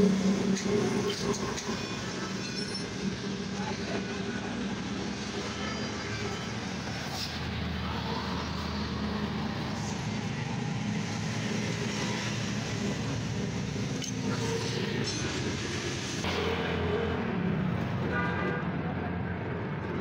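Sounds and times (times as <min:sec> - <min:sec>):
background traffic noise: 0:00.0 - 0:20.0.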